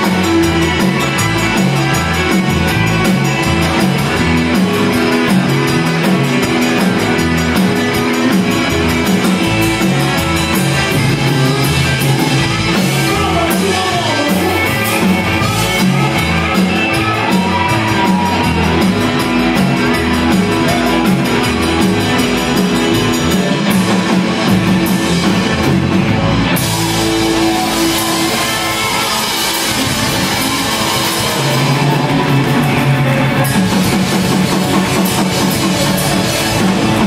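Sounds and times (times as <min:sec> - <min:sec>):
bass: 0:00.0 - 0:37.0
drums: 0:00.0 - 0:37.0
electric guitars: 0:00.0 - 0:37.0
keyboard: 0:00.0 - 0:37.0.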